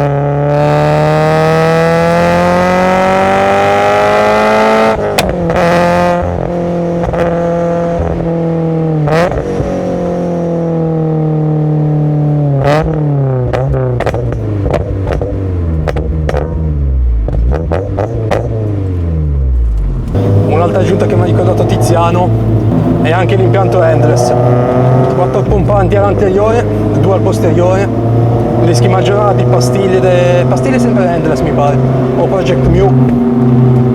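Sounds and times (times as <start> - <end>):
car engine revving: 0.0 - 33.9
exhaust cracks: 4.8 - 11.7, 12.4 - 33.9.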